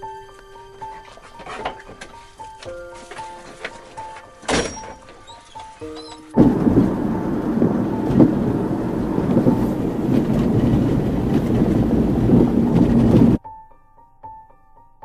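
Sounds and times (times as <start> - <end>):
soft musical notes: 0.0 - 12.4
van cabin rumble: 0.8 - 13.4.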